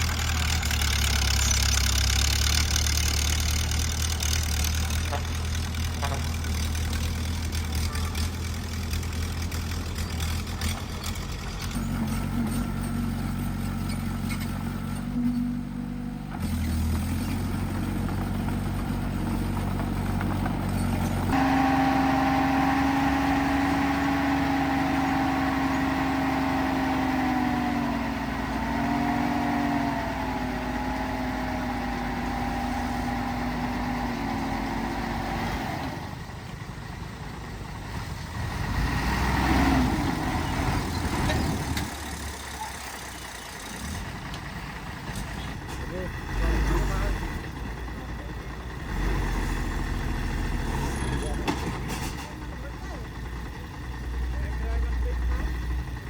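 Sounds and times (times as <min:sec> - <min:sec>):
heavy diesel engine rumbling: 0:00.0 - 0:56.0.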